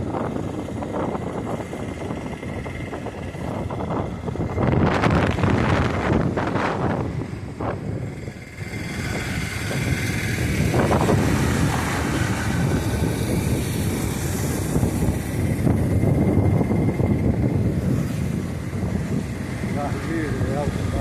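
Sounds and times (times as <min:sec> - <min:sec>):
vehicle rumbling low: 0:00.0 - 0:21.0
wind on microphone: 0:00.0 - 0:21.0.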